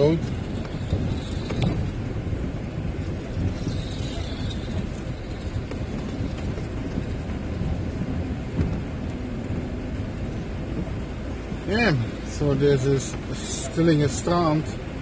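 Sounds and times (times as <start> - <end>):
engine and tyre rumble: 0.0 - 15.0.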